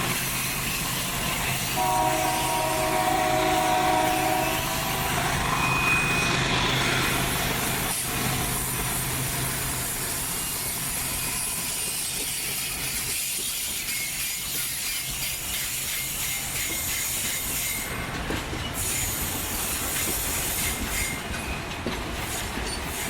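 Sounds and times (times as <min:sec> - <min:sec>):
train rumble and rail noise: 0:00.0 - 0:23.0.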